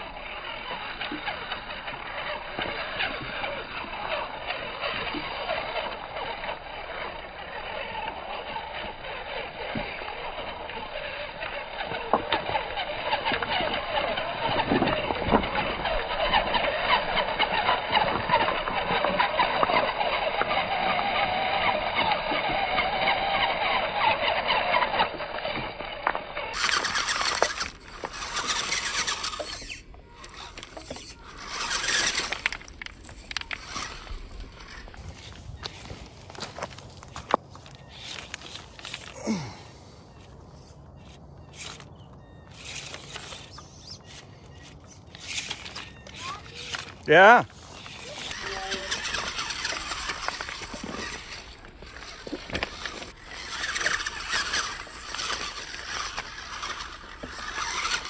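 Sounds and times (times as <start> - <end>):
electric motors whining: 0.0 - 58.0
tyres scrabbling on rock: 0.0 - 58.0
tires clattering against stones: 5.8 - 58.0.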